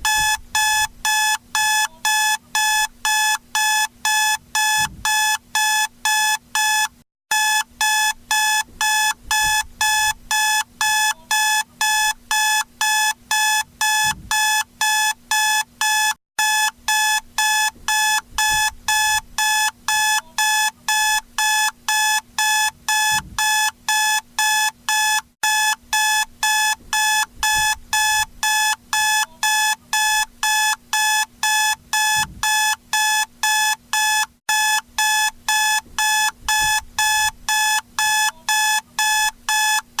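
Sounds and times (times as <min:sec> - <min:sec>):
alarm clock beeping: 0:00.0 - 0:39.8.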